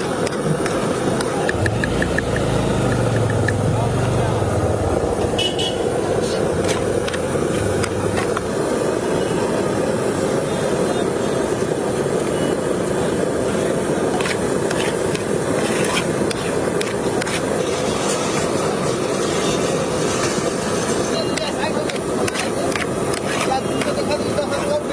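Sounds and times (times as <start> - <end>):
street traffic noise: 0.0 - 24.9.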